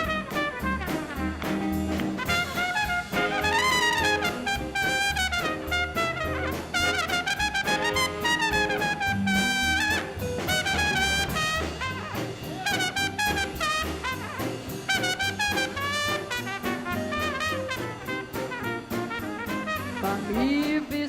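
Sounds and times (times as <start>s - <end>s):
horns playing melody: 0.0s - 20.8s
drums: 0.0s - 21.0s
swing band playing: 0.0s - 21.0s
walking upright bass: 0.0s - 21.0s.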